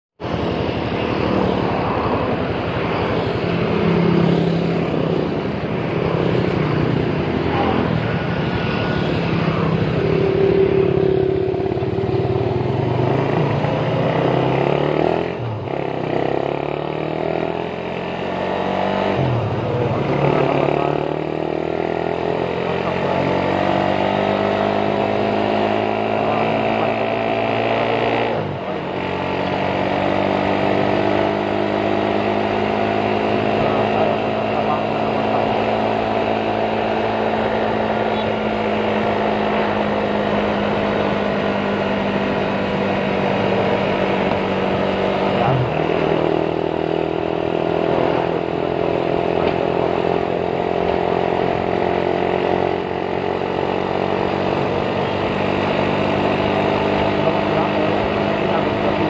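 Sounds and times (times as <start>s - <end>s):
motorcycle engine accelerating: 0.2s - 59.0s.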